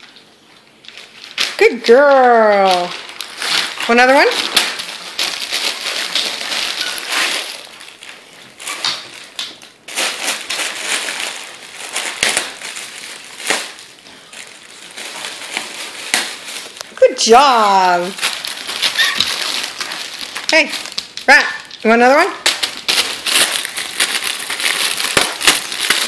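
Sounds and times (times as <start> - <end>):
wrapping paper ripping: 0.9 - 26.0.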